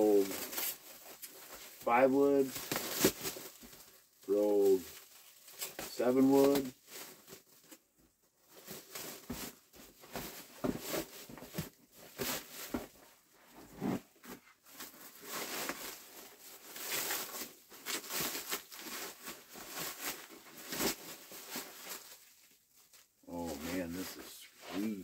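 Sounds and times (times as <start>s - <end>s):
plastic wrapping crinkling: 0.0s - 13.0s, 14.5s - 25.0s.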